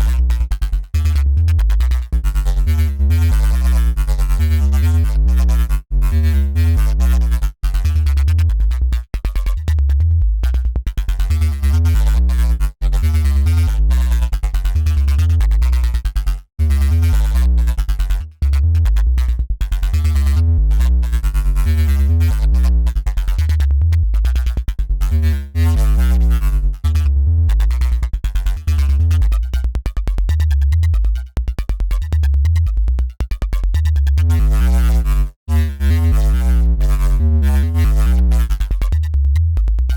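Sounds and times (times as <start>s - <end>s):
dirty synth bass riff: 0.0s - 39.9s.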